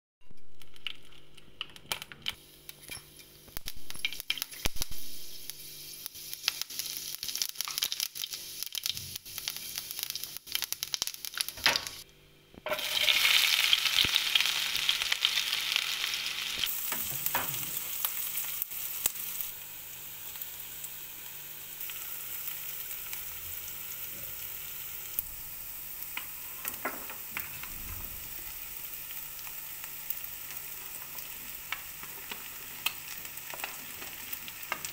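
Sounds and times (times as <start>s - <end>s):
onions sizzling in oil: 0.4s - 12.0s, 12.6s - 34.9s.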